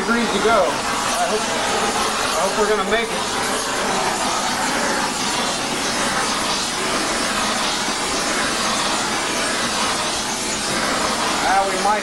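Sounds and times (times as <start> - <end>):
torch flames hissing: 0.0 - 12.0.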